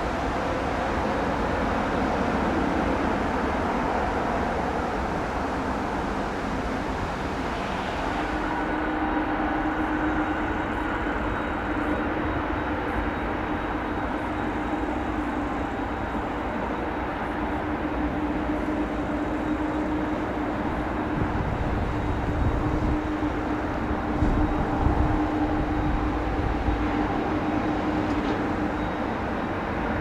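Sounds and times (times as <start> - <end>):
jet engines whining and rumbling: 0.0 - 30.0.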